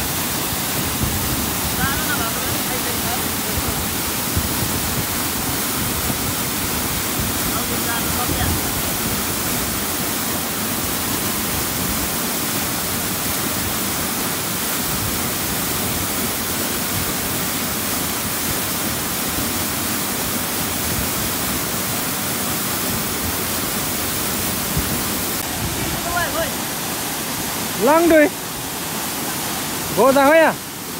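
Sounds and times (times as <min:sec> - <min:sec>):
mountain stream rushing: 0:00.0 - 0:30.9.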